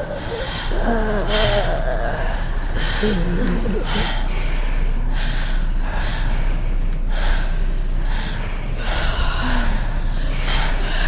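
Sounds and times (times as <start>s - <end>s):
heavy human breathing: 0.0s - 11.0s.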